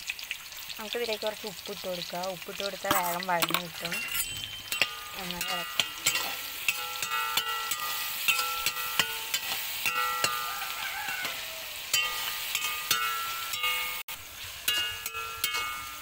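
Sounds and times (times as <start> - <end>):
onions sizzling in oil: 0.0 - 16.0
metal ladle scraping pan: 2.8 - 16.0.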